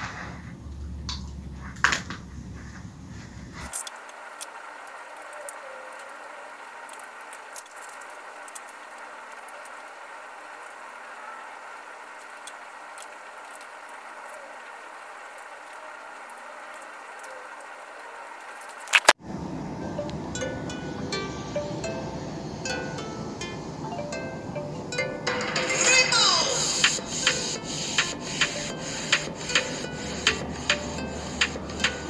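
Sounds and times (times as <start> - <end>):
room hiss: 2.5 - 32.0.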